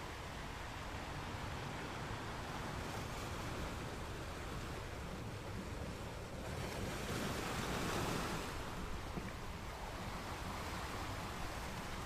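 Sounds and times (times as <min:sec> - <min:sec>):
ocean waves washing in: 0:00.0 - 0:12.0.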